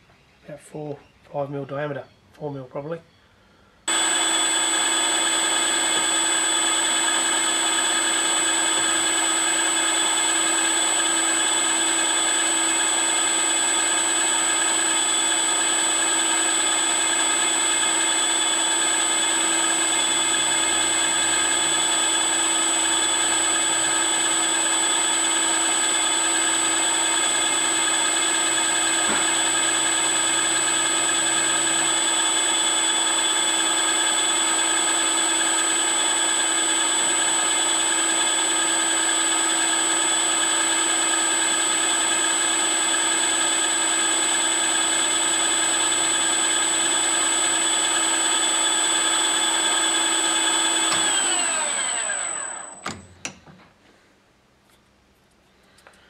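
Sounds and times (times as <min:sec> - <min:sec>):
milling machine drilling metal: 0:03.9 - 0:53.1.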